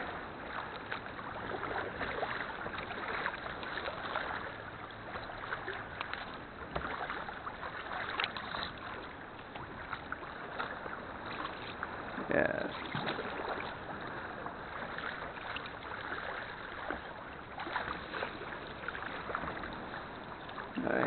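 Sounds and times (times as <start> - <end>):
paddle splashing in water: 0.0 - 21.0.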